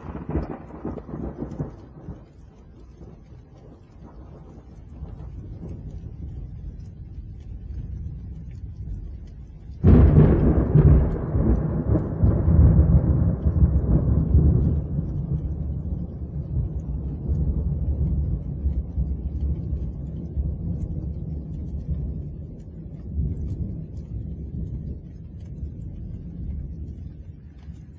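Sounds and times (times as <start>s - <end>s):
thunder rumble and crack: 0.0s - 27.9s.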